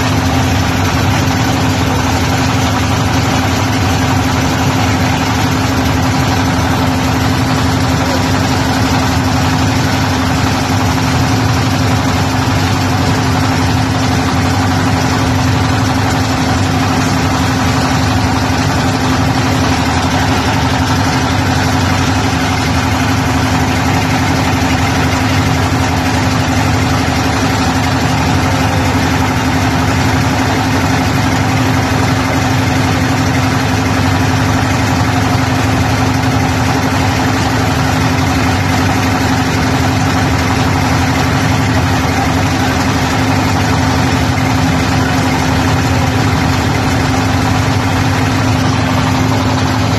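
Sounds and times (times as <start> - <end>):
motorboat engine droning: 0.0 - 49.9.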